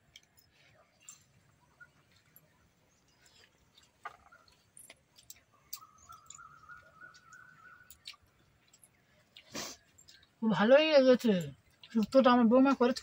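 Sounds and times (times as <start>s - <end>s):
people eating by hand: 0.0s - 13.0s.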